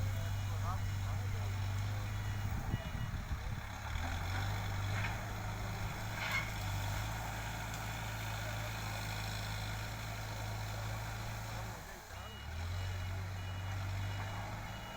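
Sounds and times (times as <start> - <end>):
diesel engine humming: 0.0 - 14.9.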